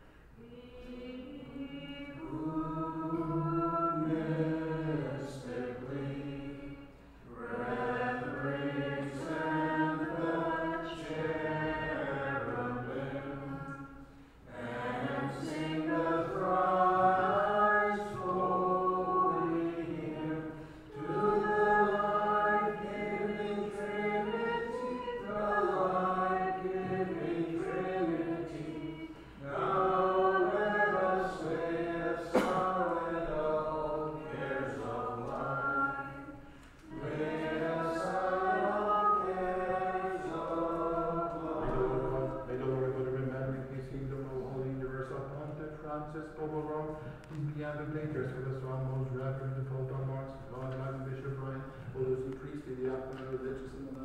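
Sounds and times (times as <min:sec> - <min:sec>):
voices singing chant: 0:00.4 - 0:45.0.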